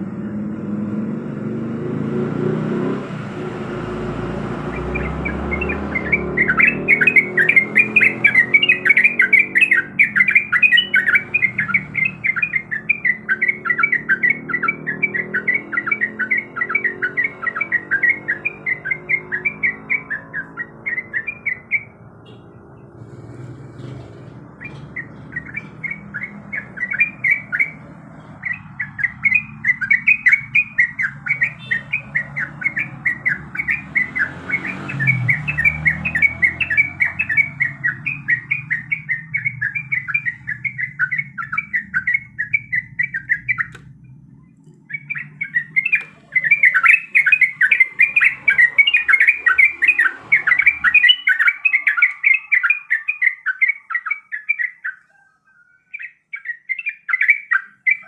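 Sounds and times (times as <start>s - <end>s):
bird chattering song: 3.5s - 58.0s.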